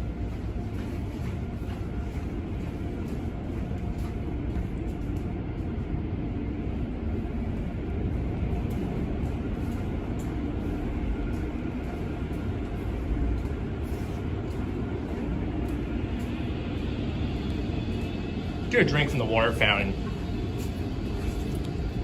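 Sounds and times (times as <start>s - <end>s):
car wash machinery rumble: 0.0s - 22.0s
faint hum: 0.0s - 22.0s.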